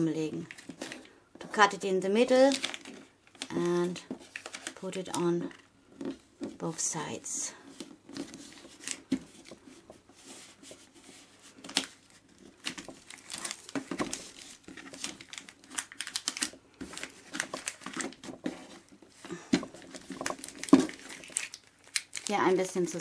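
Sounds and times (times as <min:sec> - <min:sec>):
plastic foil crinkling: 0:00.3 - 0:05.7, 0:06.6 - 0:23.0.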